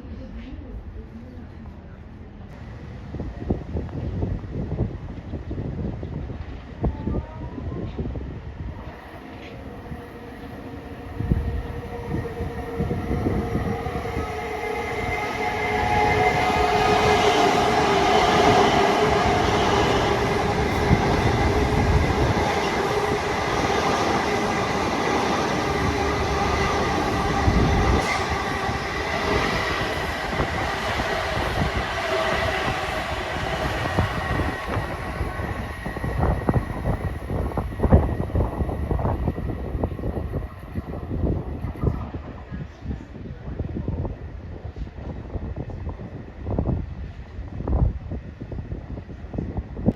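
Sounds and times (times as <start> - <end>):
train rumbling past: 1.0 - 49.9.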